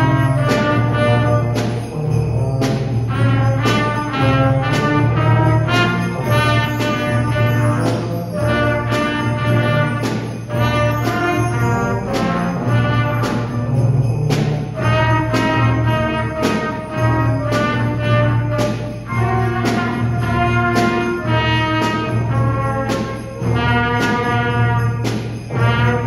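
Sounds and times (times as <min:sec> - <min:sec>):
wind band playing: 0:00.0 - 0:26.0.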